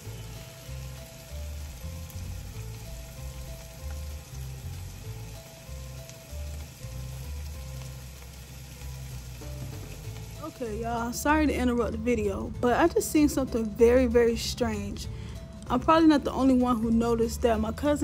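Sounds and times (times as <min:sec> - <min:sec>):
food sizzling in a frying pan: 0:00.0 - 0:14.5
background music with bass line: 0:00.0 - 0:18.0.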